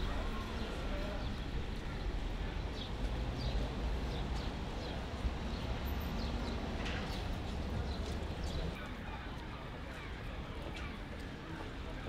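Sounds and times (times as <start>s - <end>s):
low rumble of traffic: 0.0s - 10.6s.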